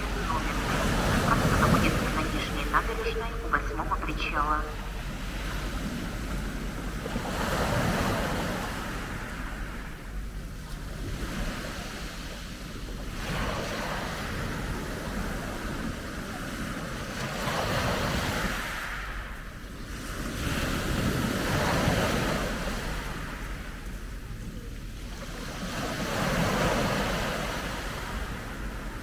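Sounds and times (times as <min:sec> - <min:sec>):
sea waves breaking on shore: 0:00.0 - 0:29.0
wind rumbling on microphone: 0:00.0 - 0:29.0.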